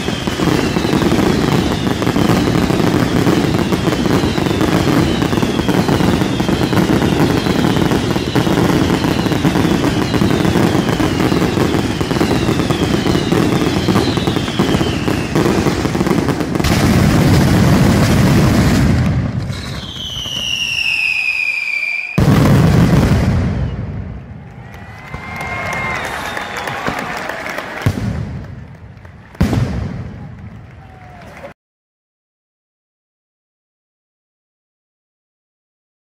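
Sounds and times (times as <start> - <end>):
fireworks falling whistles: 0.0 - 30.6
heavy fireworks blast: 0.0 - 31.2
fireworks bangs and crackling: 0.0 - 31.5.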